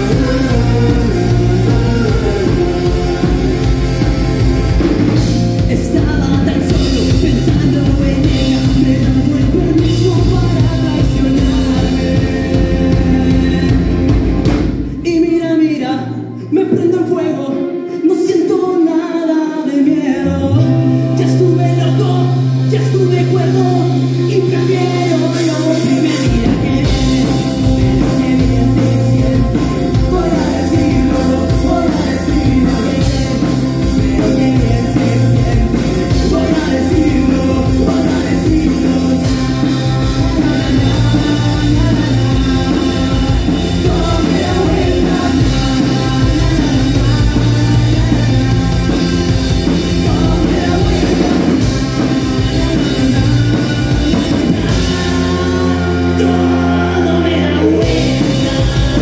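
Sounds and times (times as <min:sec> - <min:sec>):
drums: 0:00.0 - 0:59.0
live rock band playing: 0:00.0 - 0:59.0
person singing: 0:00.0 - 0:59.0.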